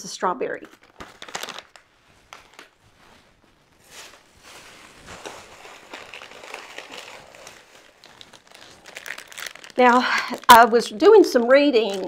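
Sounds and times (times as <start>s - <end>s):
snack packaging crinkling: 0.6s - 12.0s.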